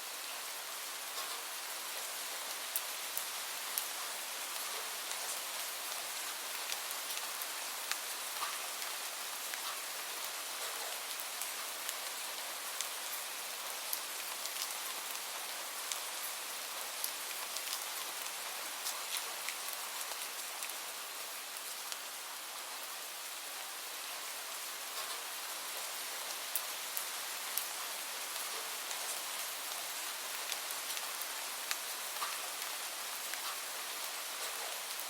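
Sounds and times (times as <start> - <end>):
light rain hissing: 0.0 - 35.0
raindrops ticking on a surface: 0.2 - 22.7, 24.0 - 35.0.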